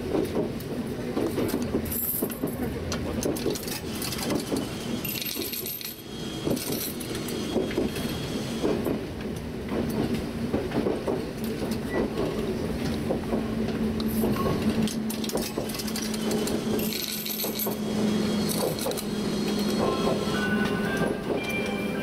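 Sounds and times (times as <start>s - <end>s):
electric railcar running: 0.0s - 22.0s
railcar whine: 0.0s - 22.0s.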